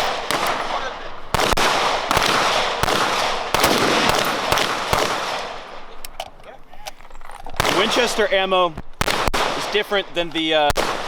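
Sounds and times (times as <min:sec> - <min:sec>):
rifle shots echoing: 0:00.0 - 0:06.4, 0:07.4 - 0:11.0.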